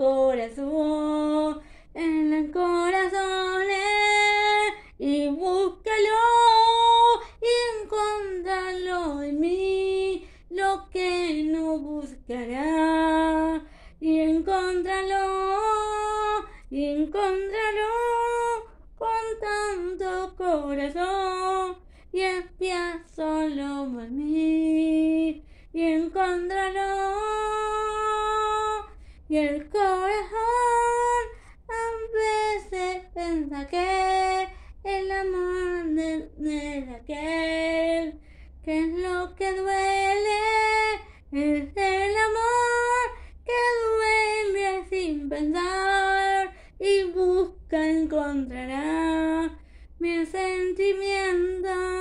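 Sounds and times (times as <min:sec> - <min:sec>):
woman singing unaccompanied: 0:00.0 - 0:52.0.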